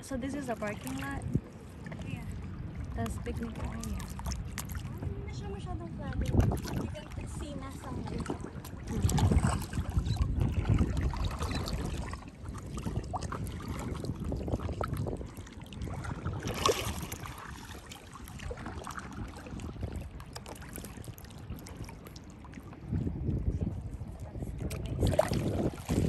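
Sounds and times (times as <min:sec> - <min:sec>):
lake water lapping and splashing: 0:00.0 - 0:26.0
wind rumbling on microphone: 0:00.0 - 0:26.0.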